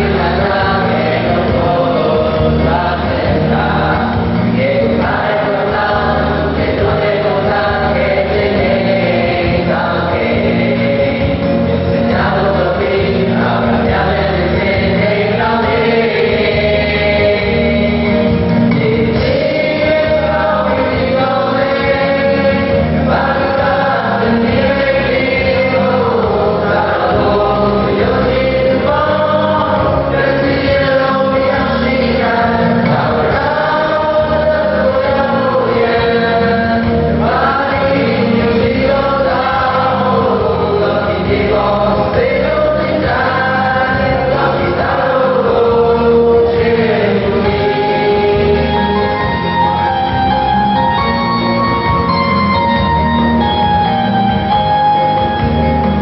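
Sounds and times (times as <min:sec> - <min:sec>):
choir singing a hymn: 0:00.0 - 0:55.7.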